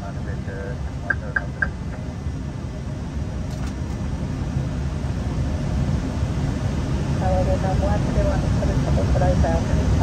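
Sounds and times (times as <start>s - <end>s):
airflow and engine rush: 0.0s - 10.0s.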